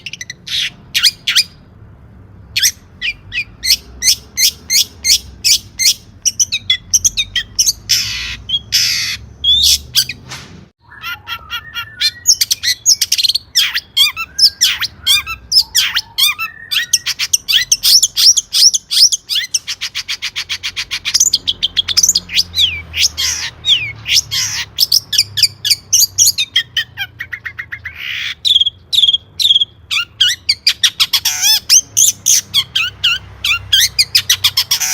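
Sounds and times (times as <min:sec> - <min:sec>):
bird singing chirps and squawks: 0:00.0 - 0:01.7, 0:02.4 - 0:34.9.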